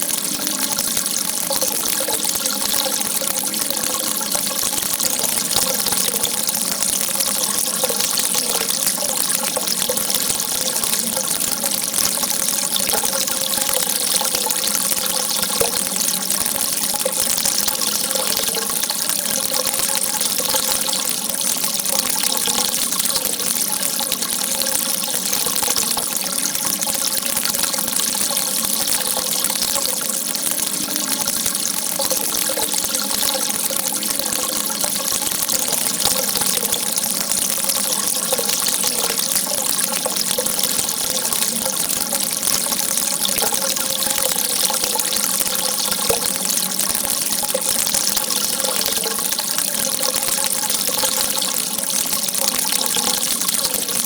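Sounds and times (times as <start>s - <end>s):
water gushing: 0.0s - 54.0s.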